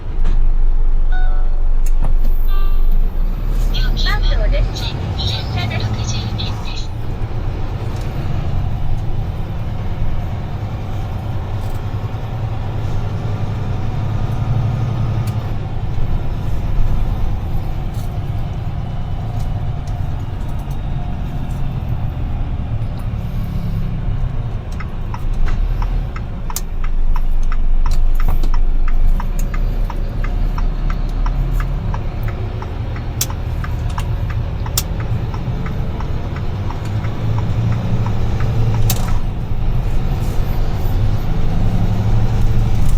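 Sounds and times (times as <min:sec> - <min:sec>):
road noise: 0:00.0 - 0:42.9
truck engine drone: 0:00.0 - 0:42.9
regular ticking: 0:01.2 - 0:42.9.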